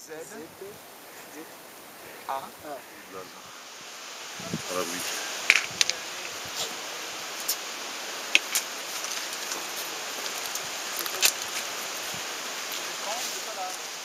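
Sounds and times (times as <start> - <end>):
wind noise on microphone: 0.1 - 12.8.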